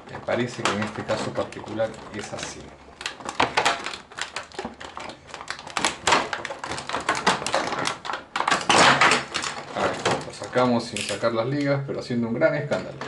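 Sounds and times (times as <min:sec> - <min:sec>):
plastic blister tray crackling: 0:00.0 - 0:11.8.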